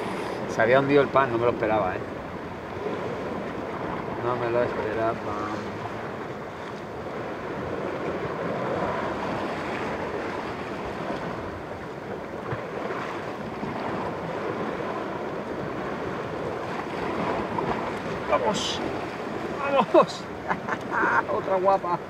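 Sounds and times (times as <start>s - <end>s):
sea surf washing against rocks: 0.0s - 22.0s.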